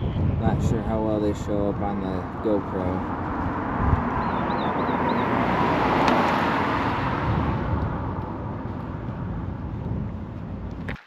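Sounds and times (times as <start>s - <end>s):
tires and wind rushing: 0.0s - 11.0s.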